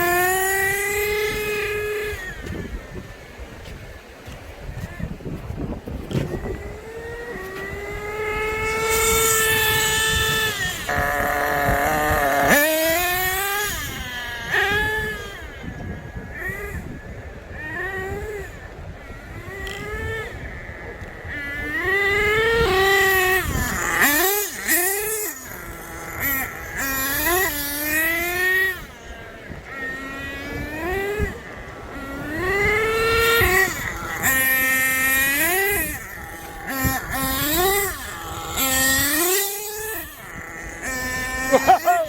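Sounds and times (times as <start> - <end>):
rc truck engines revving: 0.0 - 42.0.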